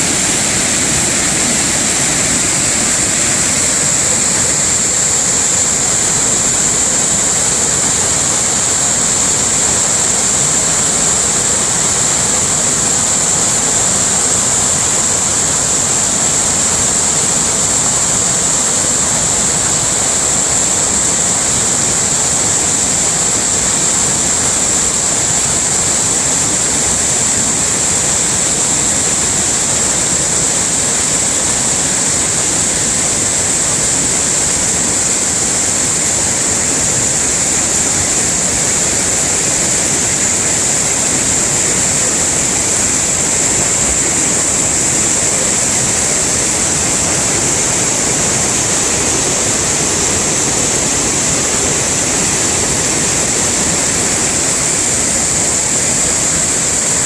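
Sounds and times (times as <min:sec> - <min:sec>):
high hiss: 0:00.0 - 0:57.0
waterfall rushing: 0:00.0 - 0:57.0.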